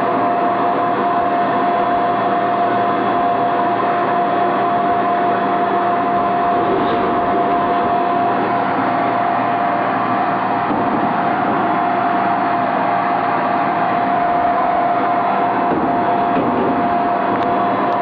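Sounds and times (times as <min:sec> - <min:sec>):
machine whine and hiss: 0:00.0 - 0:18.0.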